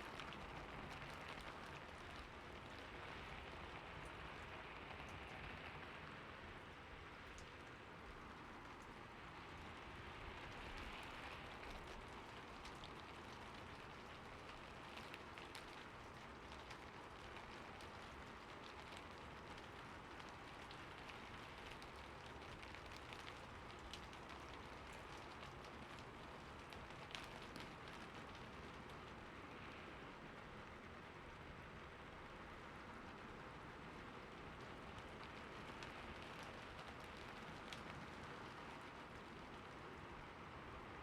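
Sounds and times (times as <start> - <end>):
raindrop ticks: 0.0 - 40.7
soft steady rain: 0.0 - 41.0.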